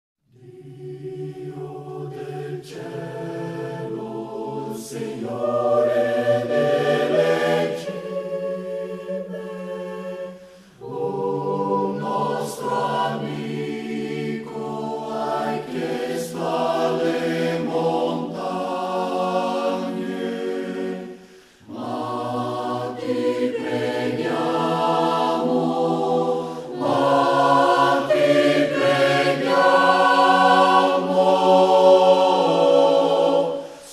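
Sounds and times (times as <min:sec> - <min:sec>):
choir singing: 0:00.3 - 0:33.9.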